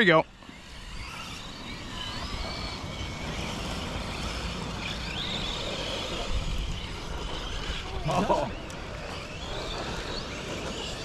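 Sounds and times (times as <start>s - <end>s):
high electric motor whines: 0.0s - 11.0s
steady rushing noise: 0.0s - 11.0s.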